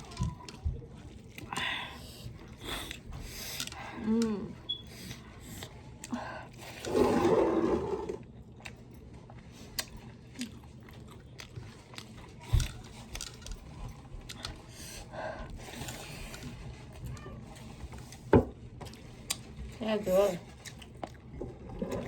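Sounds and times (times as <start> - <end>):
chewing and crunching food: 0.0 - 7.0, 8.2 - 22.0.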